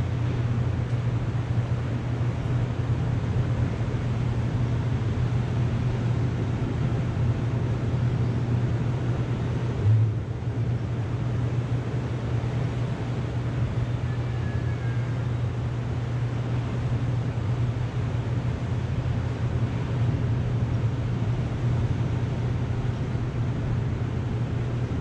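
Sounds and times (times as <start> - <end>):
wind: 0.0 - 25.0.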